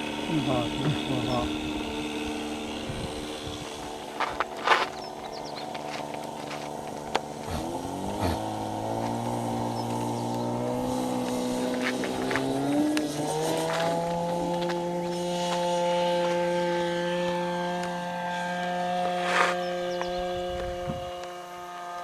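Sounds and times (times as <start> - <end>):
model airplane engine running: 0.0 - 22.0.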